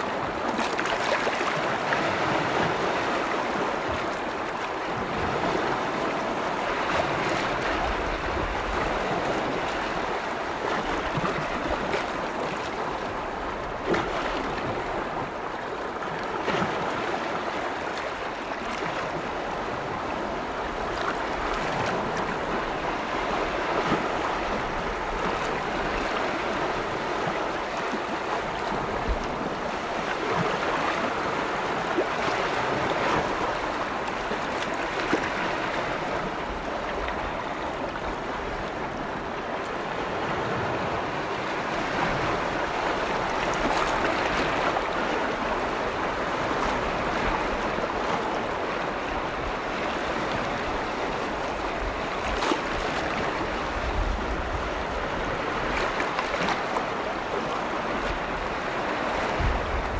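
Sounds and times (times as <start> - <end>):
lake waves lapping against shore: 0.0 - 59.9.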